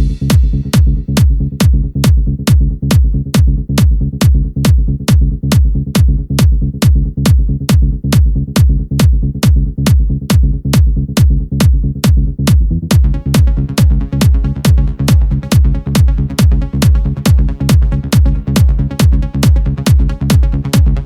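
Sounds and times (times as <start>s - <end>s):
electronic dance music: 0.0s - 21.0s
hi-hat or synth layer: 0.0s - 21.0s.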